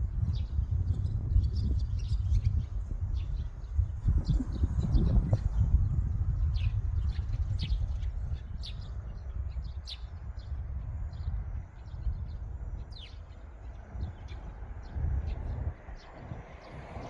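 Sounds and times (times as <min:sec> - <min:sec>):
steady low rumble: 0:00.0 - 0:17.0
birds chirping: 0:00.2 - 0:17.0.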